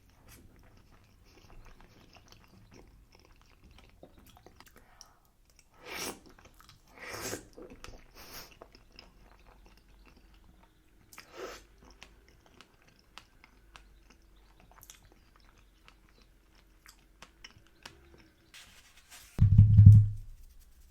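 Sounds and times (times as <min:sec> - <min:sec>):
mouth chewing sounds: 0:00.0 - 0:18.5.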